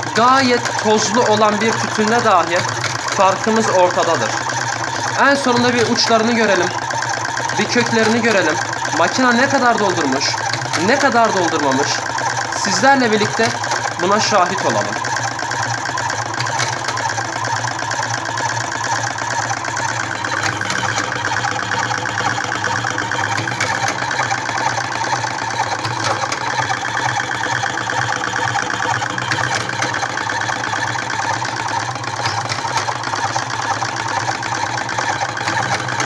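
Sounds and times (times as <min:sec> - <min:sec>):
cigarette-rolling machine whirring: 0:00.0 - 0:36.0.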